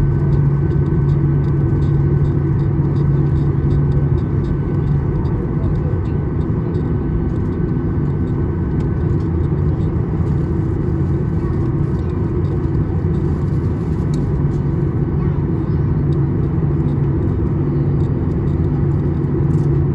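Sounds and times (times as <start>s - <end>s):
jet engines rumbling: 0.0s - 19.9s
thin steady whine: 0.0s - 19.9s.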